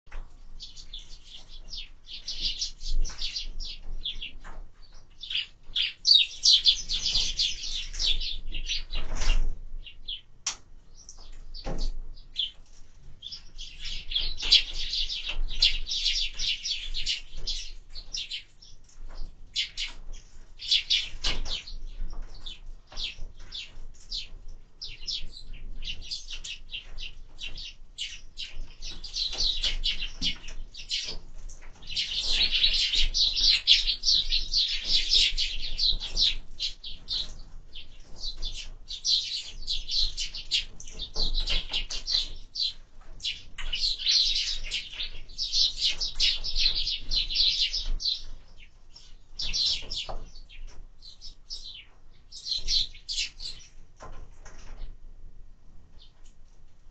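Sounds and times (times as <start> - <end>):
sparrows chirping: 0.1 - 10.3, 10.9 - 54.1.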